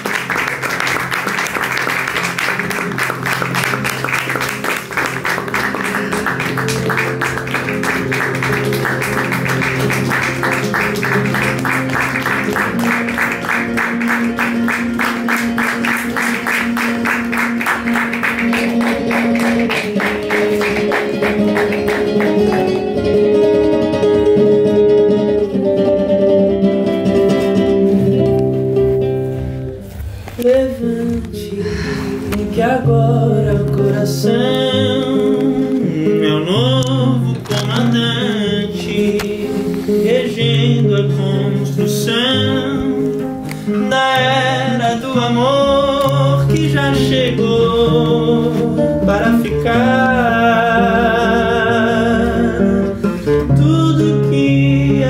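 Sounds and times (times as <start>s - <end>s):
nylon-string guitar: 0.0s - 55.0s.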